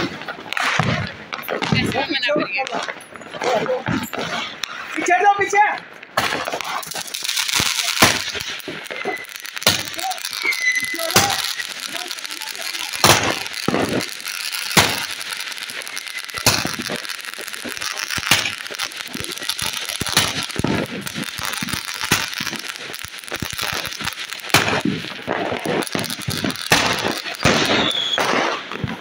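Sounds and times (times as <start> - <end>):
firework shots cracking: 0.0 - 29.0
firework hissing crackle: 4.0 - 29.0.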